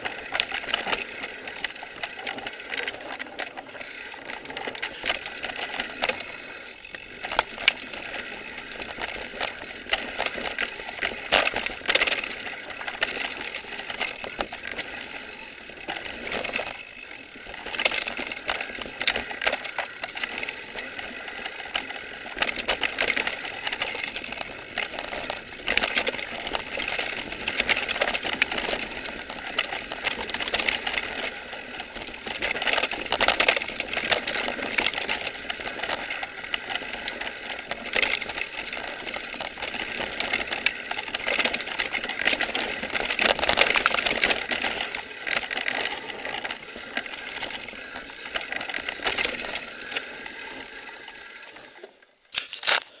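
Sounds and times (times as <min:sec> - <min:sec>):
bike and mount rattling: 0:00.0 - 0:53.0
tyres on dirt: 0:00.0 - 0:53.0.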